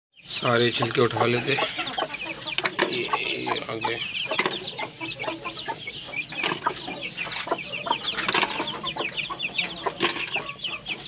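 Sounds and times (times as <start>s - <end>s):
chicks peeping: 0.2s - 11.0s.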